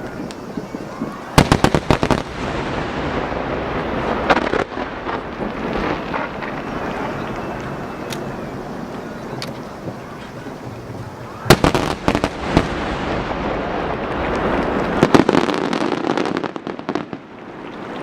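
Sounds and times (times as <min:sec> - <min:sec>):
firework boom: 0:00.0 - 0:17.4
firework crackling: 0:00.0 - 0:18.0.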